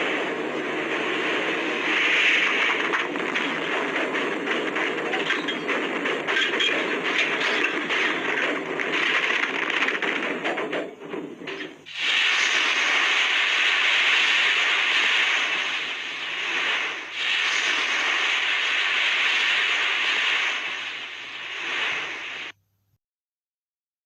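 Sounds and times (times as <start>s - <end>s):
loud rushing hiss: 0.0s - 10.8s, 11.7s - 22.6s.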